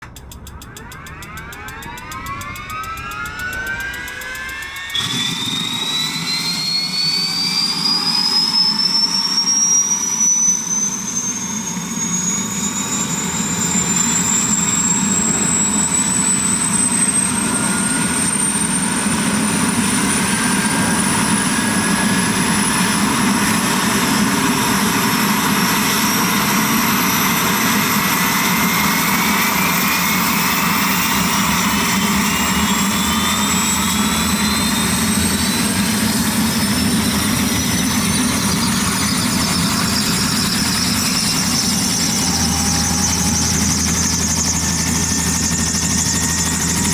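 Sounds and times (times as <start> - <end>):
helicopter turbine whine spooling up: 0.0 - 46.9.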